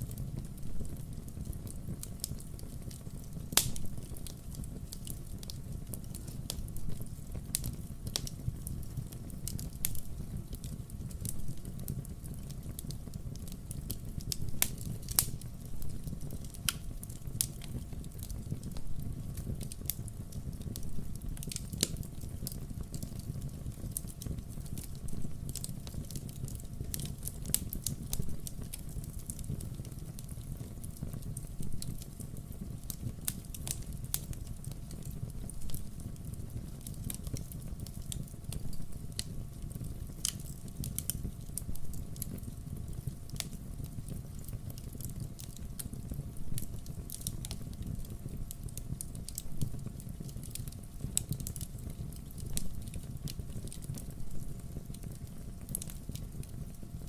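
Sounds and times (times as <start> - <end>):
burning logs crackling and popping: 0.0 - 57.0
fire low rumble: 0.0 - 57.0.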